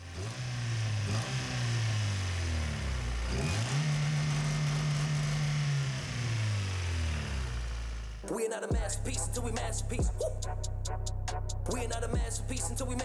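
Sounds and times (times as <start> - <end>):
car engine idling and revving: 0.0 - 8.2, 8.8 - 13.0.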